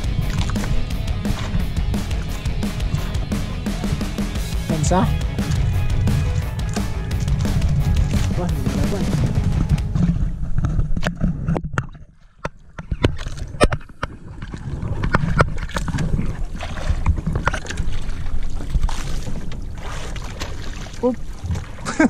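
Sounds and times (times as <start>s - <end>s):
water rushing along boat hull: 0.0s - 22.0s.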